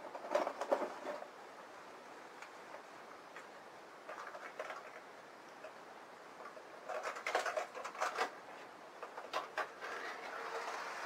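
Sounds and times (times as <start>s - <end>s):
plastic clicks and rattles: 0.0s - 1.3s, 2.4s - 5.8s, 6.4s - 10.8s.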